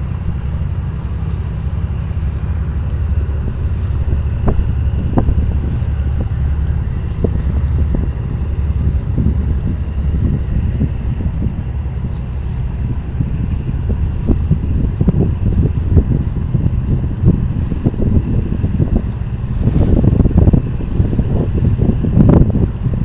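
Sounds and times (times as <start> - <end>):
boat engine rumbling: 0.0 - 23.0
wind noise on microphone: 0.0 - 23.0.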